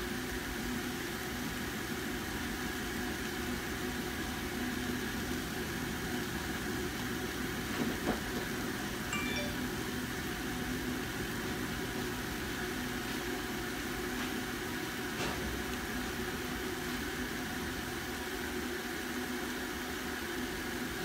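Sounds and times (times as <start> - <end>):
appliance humming and whirring: 0.0 - 21.0.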